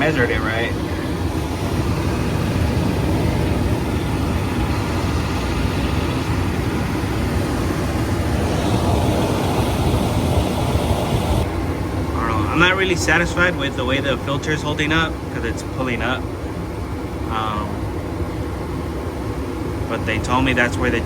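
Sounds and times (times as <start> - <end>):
furnace blower rushing air: 0.0 - 18.4.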